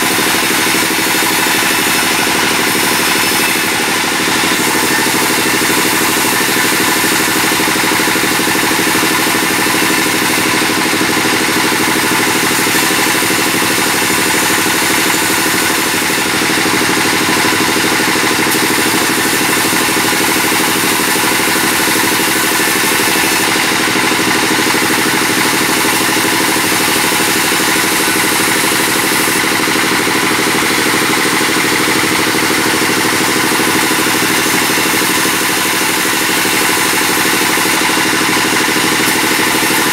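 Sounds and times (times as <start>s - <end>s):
bandsaw machinery running: 0.0s - 39.9s.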